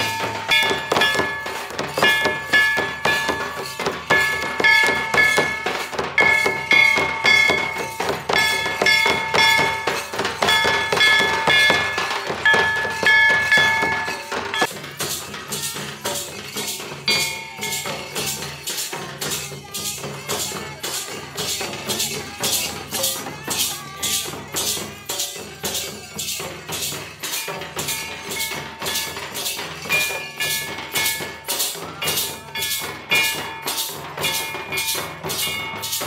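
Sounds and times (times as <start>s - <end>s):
drums beating fast rhythm: 0.0s - 36.0s.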